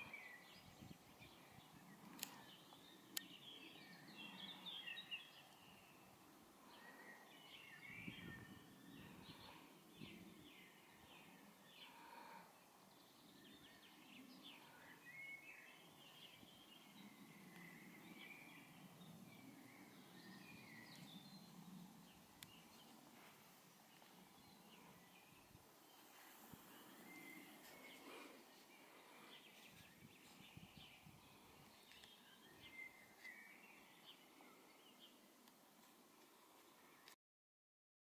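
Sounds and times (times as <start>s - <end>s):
small birds chirping and trilling: 0.0s - 23.3s, 23.9s - 37.2s
low outdoor hush: 0.0s - 37.1s.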